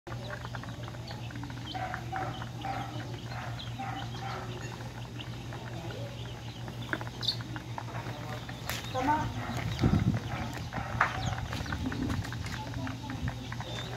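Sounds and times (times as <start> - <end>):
chicks and ducklings peeping: 0.1 - 13.9
steady low hum: 0.1 - 13.9.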